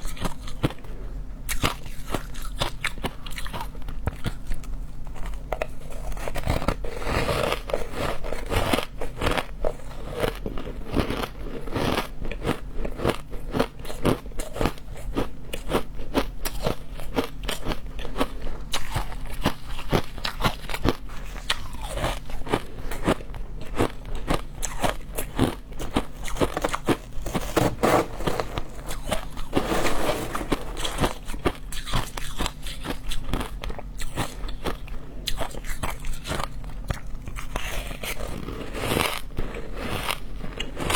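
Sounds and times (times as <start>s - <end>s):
ice being bitten and chewed: 1.5s - 40.9s.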